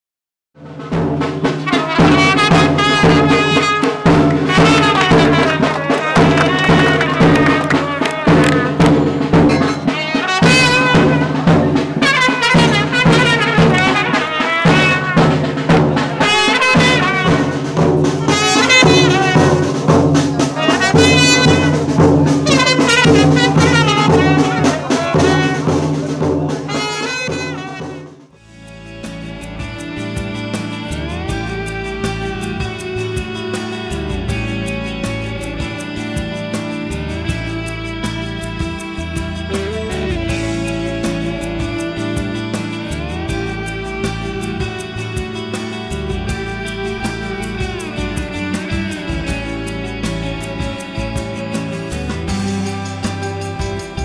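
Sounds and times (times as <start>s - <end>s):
instrumental background music: 0.6s - 54.0s.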